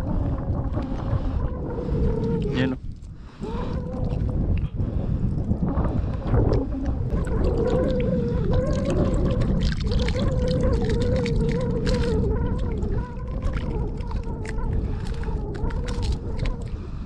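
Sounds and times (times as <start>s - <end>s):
low wind: 0.0s - 17.0s
water noise: 0.0s - 17.0s.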